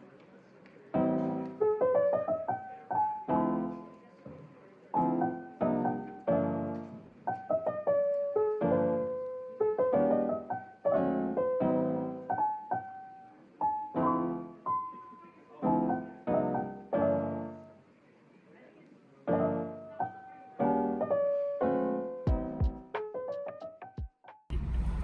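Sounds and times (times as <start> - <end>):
solo piano music: 1.0 - 3.9, 4.9 - 17.8, 19.3 - 24.0.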